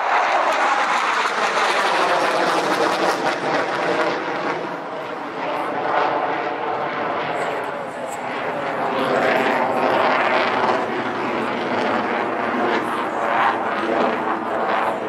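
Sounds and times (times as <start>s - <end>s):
jet engine rushing overhead: 0.0s - 15.0s.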